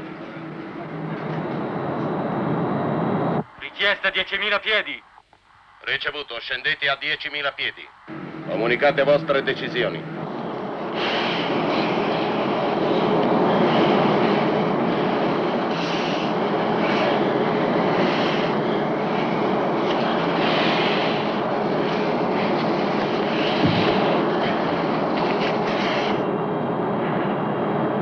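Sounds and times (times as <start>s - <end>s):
rushing air and jet engines: 0.0s - 3.9s, 7.6s - 28.0s.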